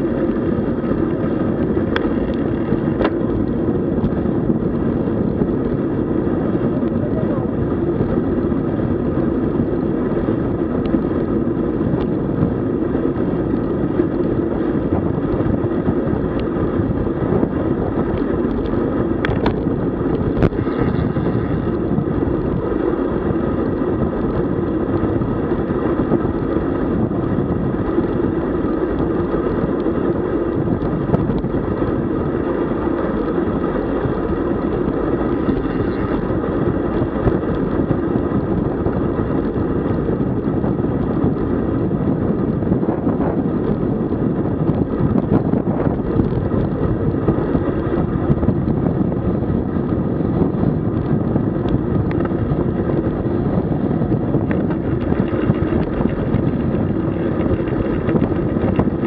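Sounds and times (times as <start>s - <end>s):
bicycle tyre and road noise: 0.0s - 59.0s
wind rushing over microphone: 0.0s - 59.0s.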